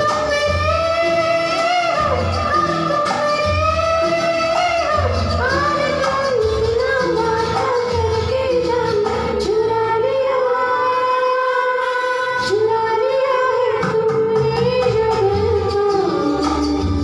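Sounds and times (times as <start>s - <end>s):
instrumental backing music: 0.0s - 17.0s
woman singing into microphone: 0.0s - 17.0s.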